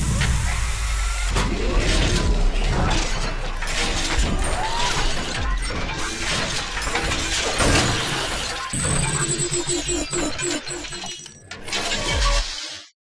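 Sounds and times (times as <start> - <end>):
crashing and breaking effects: 0.0 - 12.9
mechanical clanking: 0.1 - 12.9.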